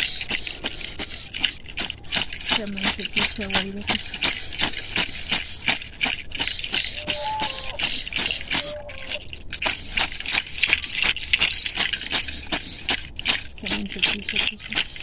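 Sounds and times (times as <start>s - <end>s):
leafy herbs rustling against back: 0.0s - 15.0s.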